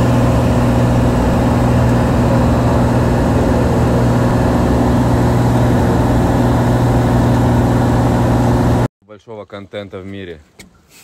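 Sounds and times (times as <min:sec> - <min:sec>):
airplane engine and propeller: 0:00.0 - 0:08.9.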